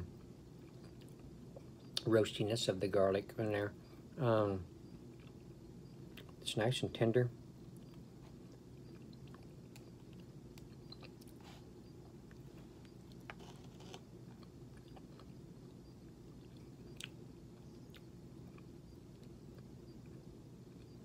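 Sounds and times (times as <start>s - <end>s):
steady low hum: 0.0s - 21.0s
faint chewing: 0.1s - 2.1s, 4.9s - 6.4s, 7.6s - 21.0s.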